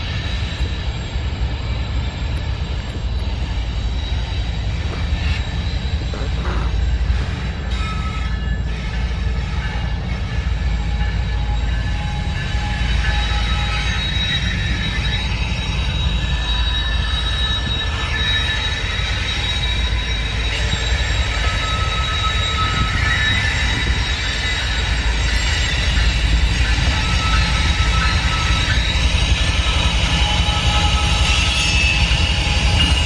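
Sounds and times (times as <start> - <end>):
train rumbling: 0.0 - 33.0
wheel flanges squealing on rail: 0.0 - 33.0.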